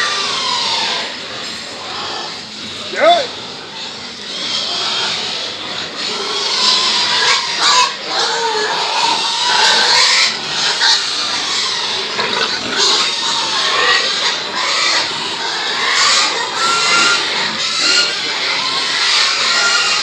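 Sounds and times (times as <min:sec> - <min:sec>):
pigs grunting and squealing: 0:00.0 - 0:20.0.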